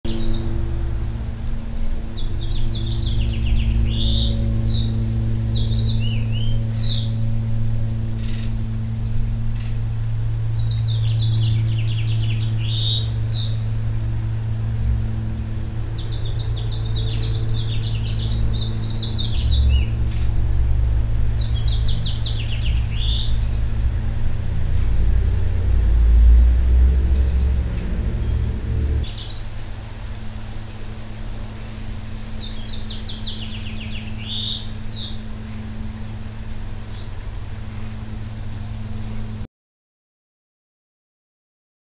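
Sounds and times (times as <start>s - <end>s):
small birds chirping: 0.0s - 39.4s
steady low hum: 0.0s - 39.5s.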